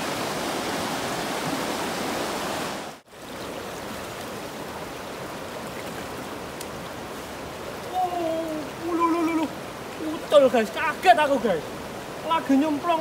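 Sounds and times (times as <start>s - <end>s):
river water rushing over rapids: 0.0s - 13.0s.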